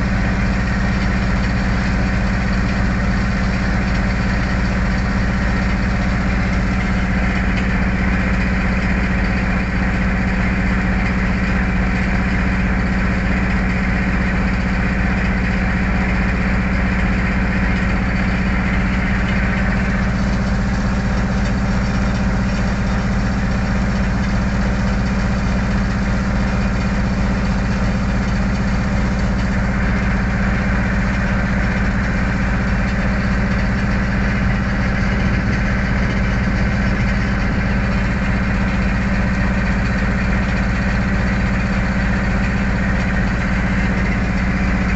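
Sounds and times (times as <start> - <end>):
boat engine low drone: 0.0 - 44.9.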